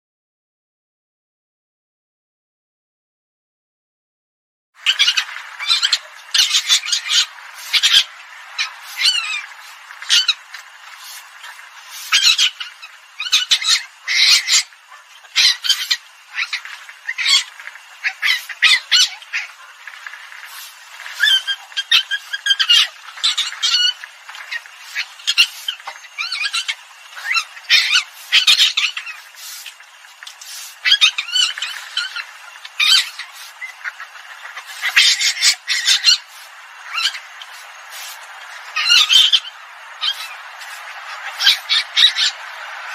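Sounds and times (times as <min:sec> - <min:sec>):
civet calls: 0:04.8 - 0:42.9.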